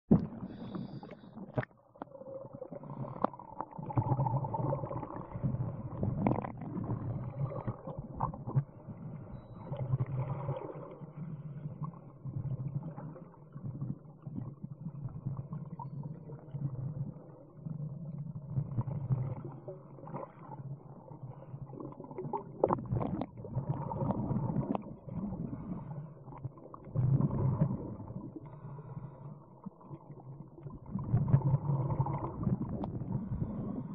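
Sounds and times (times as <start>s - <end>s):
underwater bubbling from regulators: 0.1s - 33.9s.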